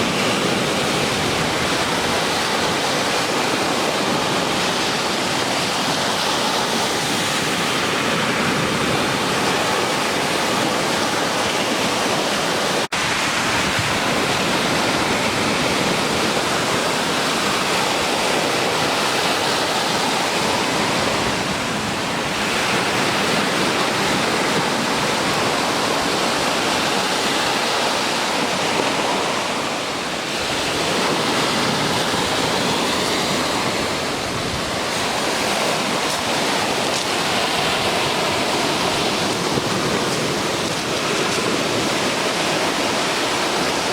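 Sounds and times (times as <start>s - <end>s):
ocean surf breaking: 0.0s - 43.9s.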